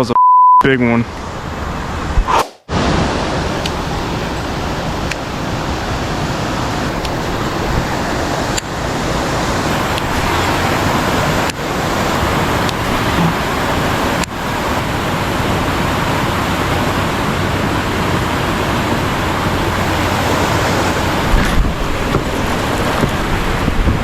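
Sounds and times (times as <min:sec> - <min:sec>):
creek water rushing: 0:01.1 - 0:24.0.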